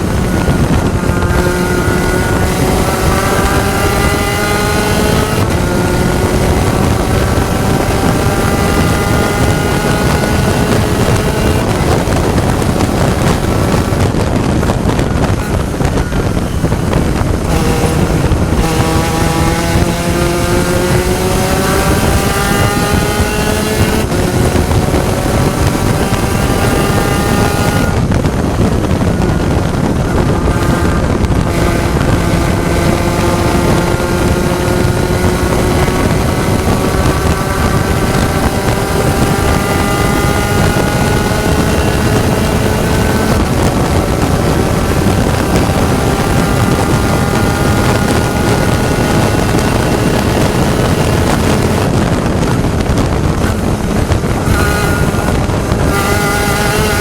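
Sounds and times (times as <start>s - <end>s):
race car engine accelerating: 0.0s - 57.0s
wind noise on microphone: 0.0s - 57.0s.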